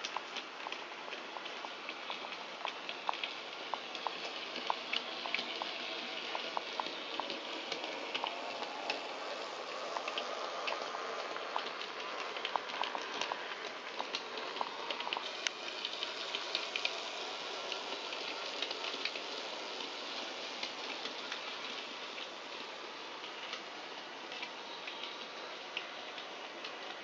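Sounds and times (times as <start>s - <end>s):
wheels clicking over rail joints: 0.0s - 27.0s
model train motor whirring: 0.3s - 27.0s.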